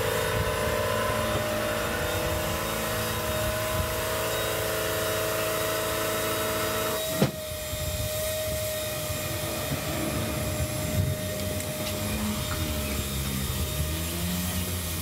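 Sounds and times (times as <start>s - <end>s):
machine whining drone: 0.0s - 15.0s.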